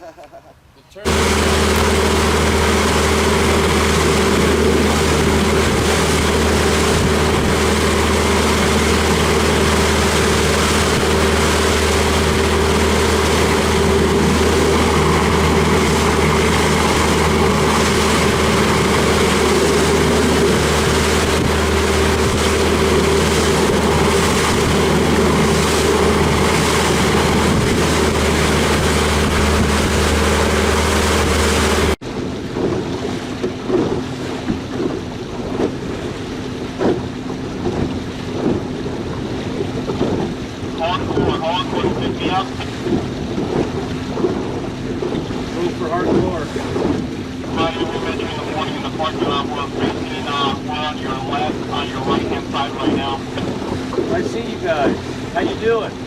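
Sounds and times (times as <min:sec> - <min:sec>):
outboard motor running: 0:01.0 - 0:56.0
wind and water rushing: 0:01.0 - 0:56.0.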